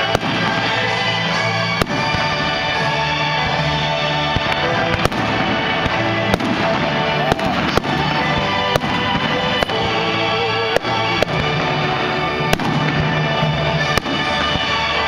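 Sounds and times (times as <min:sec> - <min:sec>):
fireworks bursting: 0:00.0 - 0:15.0
music: 0:00.0 - 0:15.0.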